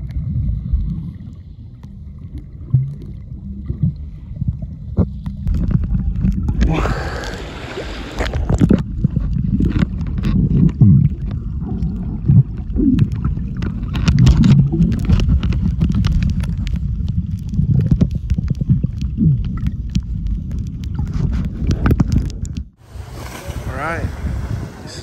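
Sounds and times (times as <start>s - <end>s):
bubbling gurgles: 0.0s - 25.0s
muffled underwater rumble: 0.0s - 25.0s.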